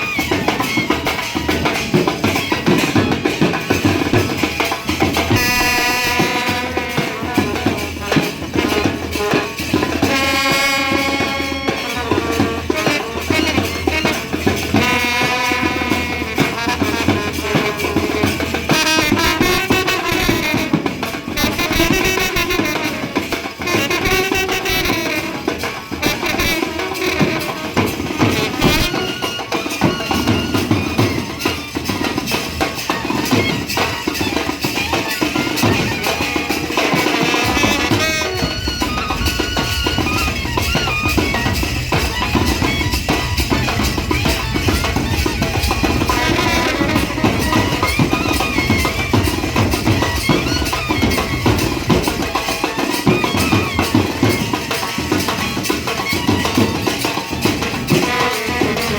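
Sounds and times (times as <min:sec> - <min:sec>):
brass band playing: 0:00.0 - 0:58.9
steady drumming: 0:00.0 - 0:58.9.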